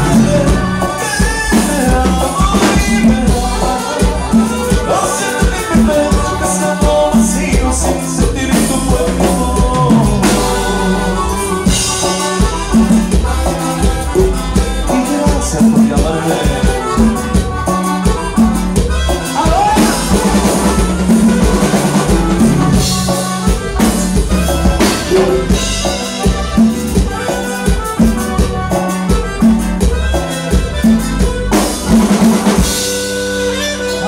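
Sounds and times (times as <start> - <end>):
drums steady beat: 0.0 - 34.0
live band dance music: 0.0 - 34.0
repeating bass line: 0.0 - 34.0.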